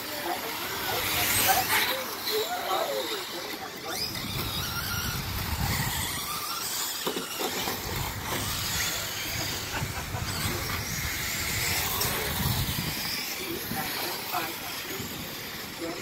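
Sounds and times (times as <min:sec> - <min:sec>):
rc car motor whines: 0:00.0 - 0:16.0.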